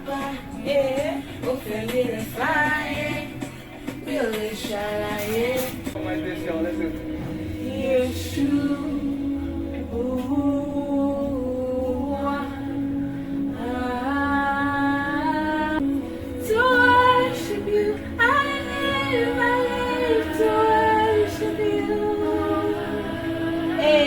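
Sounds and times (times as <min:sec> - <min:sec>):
low musical accompaniment: 0:00.0 - 0:24.0.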